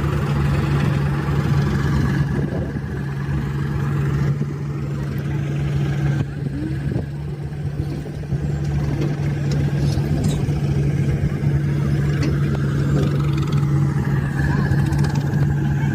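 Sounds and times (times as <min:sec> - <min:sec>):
diesel engine humming: 0:00.0 - 0:15.9.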